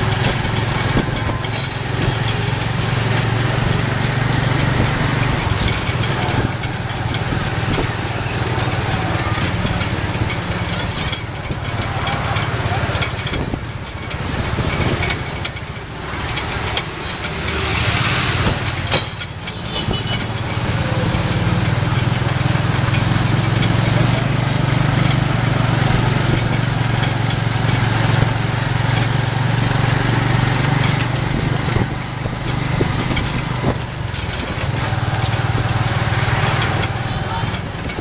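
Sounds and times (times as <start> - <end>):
motorcycle engine running: 0.0 - 38.0
street traffic noise: 0.0 - 38.0.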